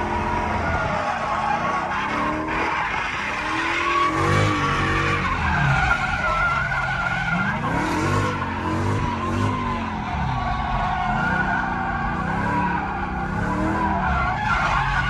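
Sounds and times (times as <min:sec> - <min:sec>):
car engine revving: 0:00.0 - 0:15.0
tyres skidding and squealing: 0:00.0 - 0:15.0.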